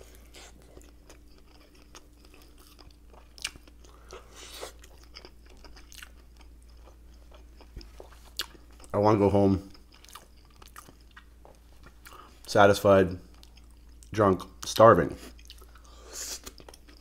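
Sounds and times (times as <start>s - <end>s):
person chewing food: 0.0s - 12.5s, 13.2s - 14.2s, 15.2s - 17.0s.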